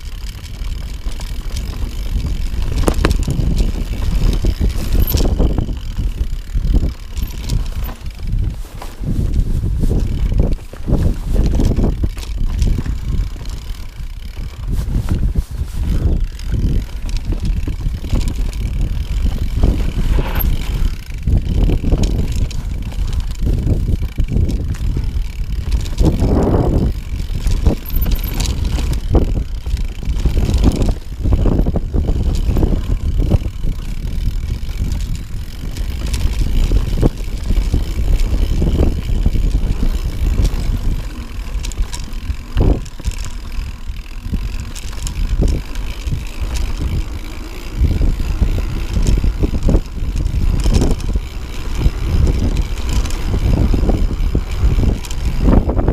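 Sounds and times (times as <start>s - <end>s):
bike knocks and rattles: 0.0s - 55.9s
bike tyres rolling over stones: 0.0s - 55.9s.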